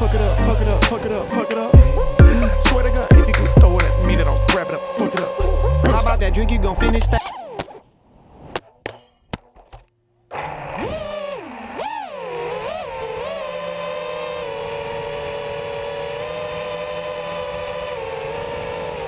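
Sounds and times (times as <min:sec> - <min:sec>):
quadcopter motors whining: 0:00.0 - 0:07.6, 0:10.3 - 0:19.0.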